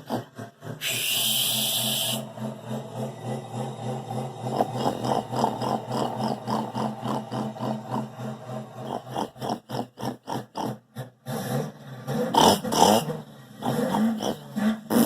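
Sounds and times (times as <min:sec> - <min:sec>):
man imitating diesel engine: 0:00.0 - 0:11.1, 0:12.3 - 0:15.0.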